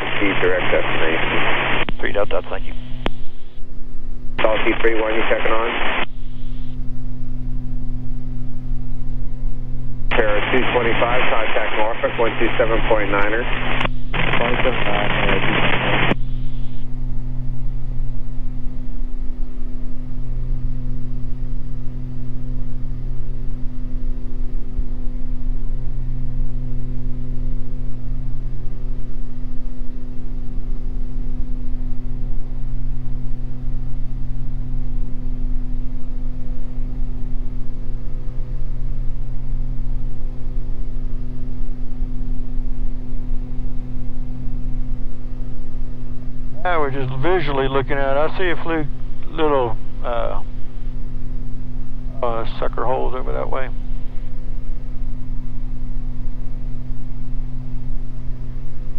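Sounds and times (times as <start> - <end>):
aircraft engines droning: 0.0 - 58.9.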